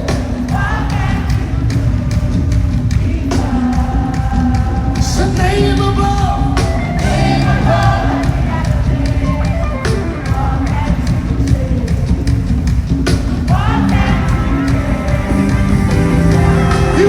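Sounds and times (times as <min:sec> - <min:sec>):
live worship band music: 0:00.0 - 0:17.0
sustained singing: 0:00.0 - 0:17.0.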